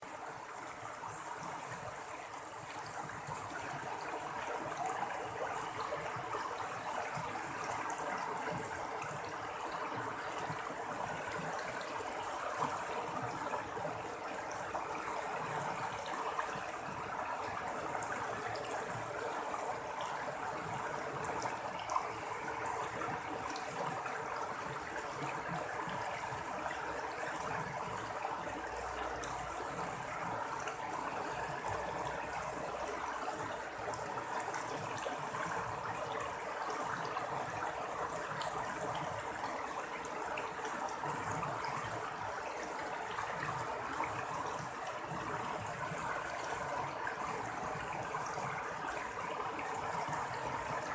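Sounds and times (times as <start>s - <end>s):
water babbling and splashing: 0.0s - 50.9s.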